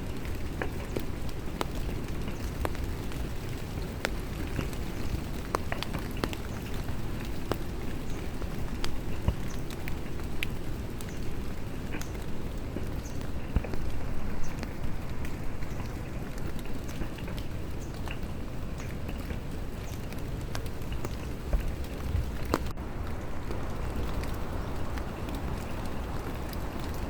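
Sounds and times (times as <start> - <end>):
rain falling: 0.0 - 27.0
raindrop ticks: 0.0 - 27.0.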